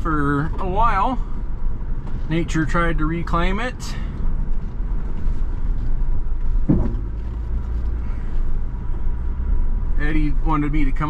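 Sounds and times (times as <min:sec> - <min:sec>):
off-road vehicle engine rumbling: 0:00.0 - 0:11.0.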